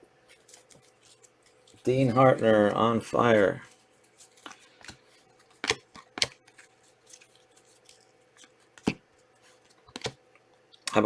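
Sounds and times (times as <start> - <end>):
packaging rustling: 0.3 - 2.6, 3.3 - 10.1.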